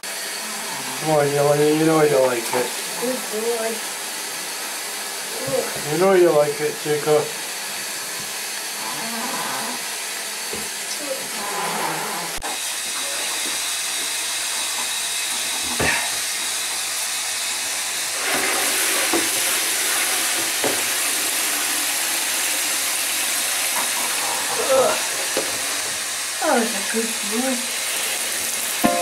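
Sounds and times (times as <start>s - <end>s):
shower spraying water into basin: 0.0s - 11.4s, 12.4s - 29.0s.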